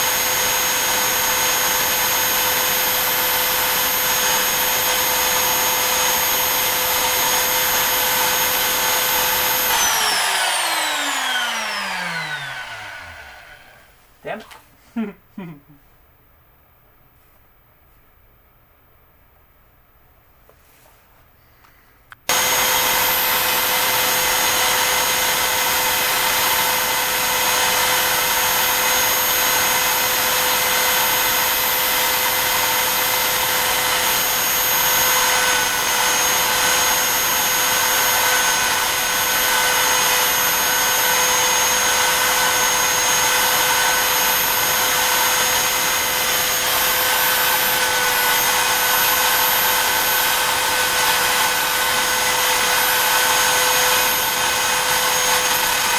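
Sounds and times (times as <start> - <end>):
cnc router spindle whine: 0.0 - 13.9, 22.3 - 55.9
router bit carving wood: 0.0 - 13.9, 22.3 - 55.9.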